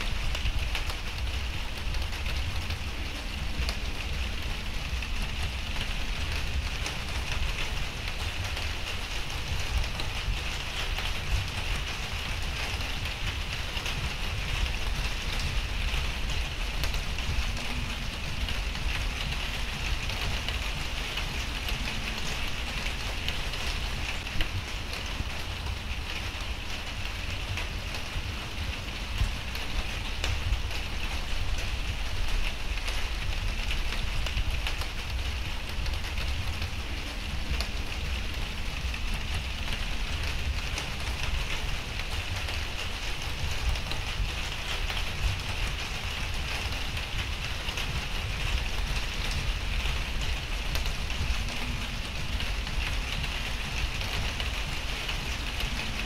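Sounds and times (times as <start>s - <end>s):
low steady rumble: 0.0s - 56.0s
rain hissing: 0.0s - 56.0s.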